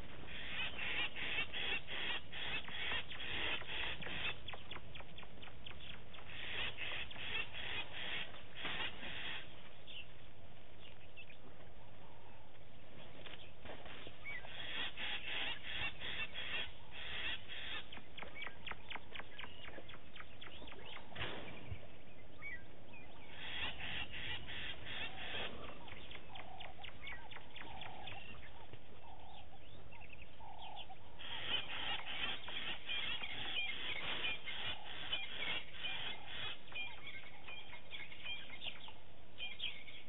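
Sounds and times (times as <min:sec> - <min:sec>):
short lower bird calls: 0:00.0 - 0:10.1, 0:14.0 - 0:40.0
birds rattling cackles: 0:00.0 - 0:40.0
outdoor background hiss: 0:00.0 - 0:40.0.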